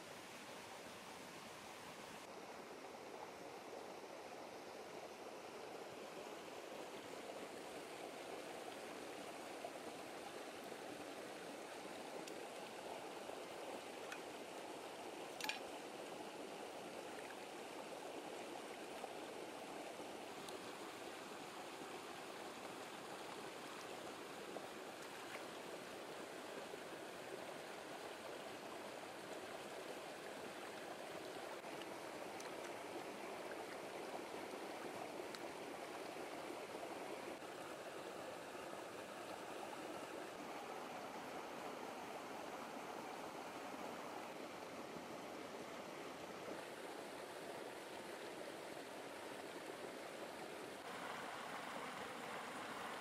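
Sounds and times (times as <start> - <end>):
stream flowing over rapids: 0.0 - 53.0.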